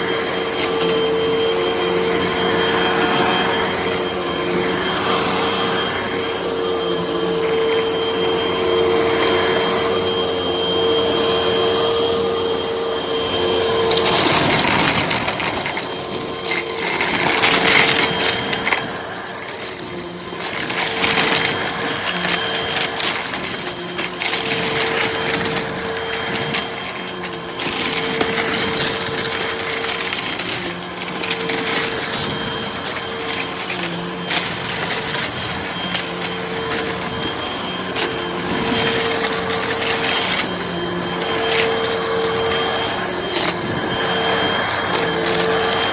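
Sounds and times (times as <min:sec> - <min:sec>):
vacuum cleaner motor hum: 0:00.0 - 0:45.9
debris rattling up nozzle: 0:00.2 - 0:05.6, 0:13.7 - 0:45.9.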